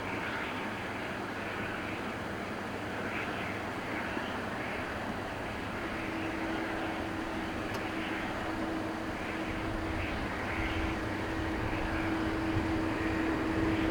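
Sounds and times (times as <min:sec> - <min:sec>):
jet engine noise: 0:00.0 - 0:13.9
steady hum: 0:00.1 - 0:13.9.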